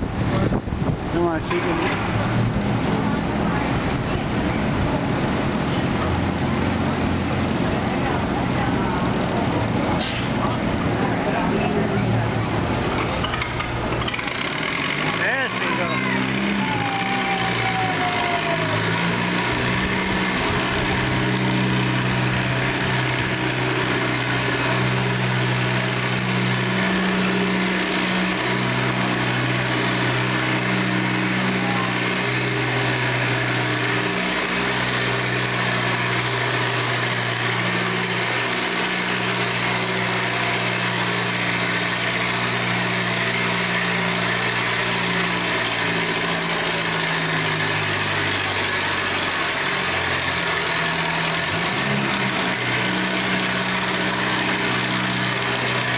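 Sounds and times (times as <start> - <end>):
tractor engine droning under load: 0.0 - 55.9.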